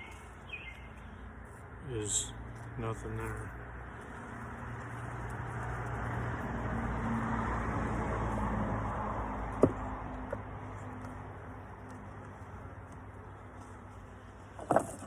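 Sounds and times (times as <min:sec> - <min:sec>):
vehicle rumbling past: 0:00.0 - 0:14.6.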